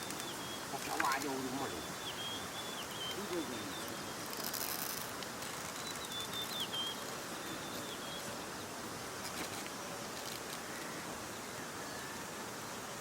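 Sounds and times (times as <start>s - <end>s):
rural outdoor ambience: 0.0s - 13.0s.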